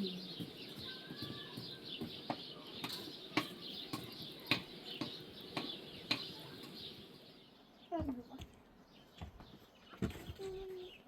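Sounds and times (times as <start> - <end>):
birds chattering: 0.0 - 11.0.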